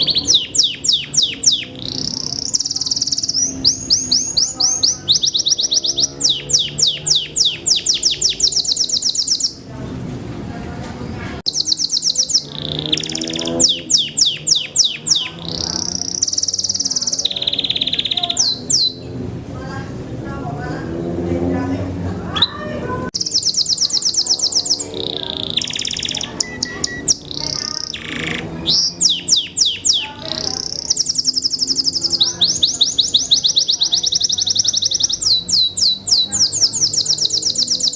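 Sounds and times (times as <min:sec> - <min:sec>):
canary singing: 0:00.0 - 0:09.8, 0:11.4 - 0:19.8, 0:22.3 - 0:37.9.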